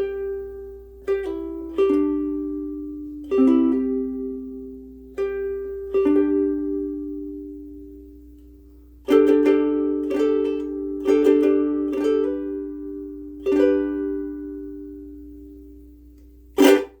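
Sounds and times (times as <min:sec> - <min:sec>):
ukulele strummed chords: 0:00.0 - 0:17.0.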